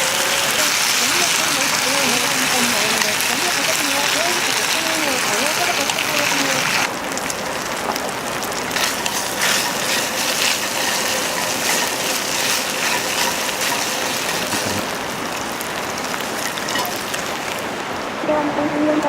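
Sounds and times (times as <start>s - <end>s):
food sizzling over a fire: 0.0s - 18.2s.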